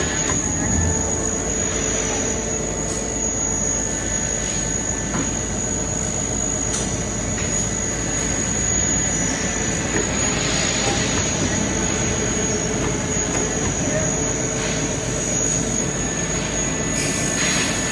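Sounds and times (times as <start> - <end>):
lathe running with high whine: 0.0 - 17.9.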